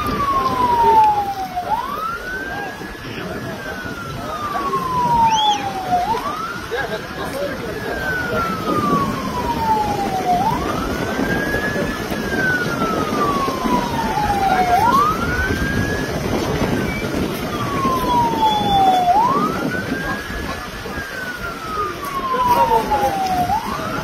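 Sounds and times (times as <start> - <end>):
low background rush: 0.0 - 24.0
siren wailing: 0.0 - 24.0.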